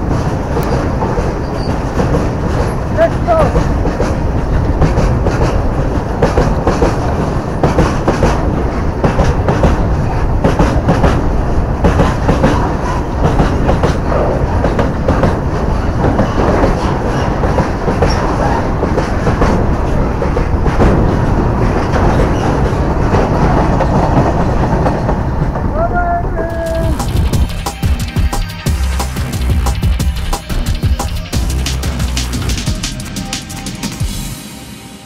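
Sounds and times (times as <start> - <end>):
wheels clattering over rail joints: 0.0 - 28.5
train rumbling past: 0.0 - 35.0.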